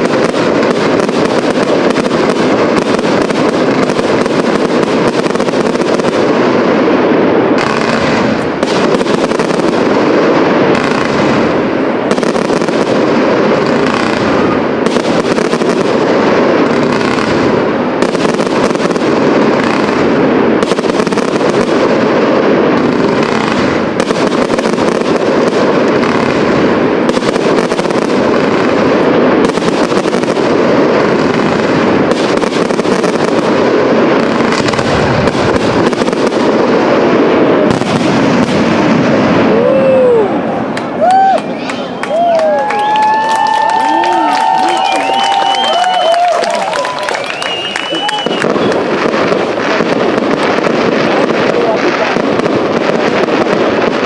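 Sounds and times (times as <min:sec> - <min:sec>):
fireworks bursts and crackling: 0:00.0 - 0:54.0.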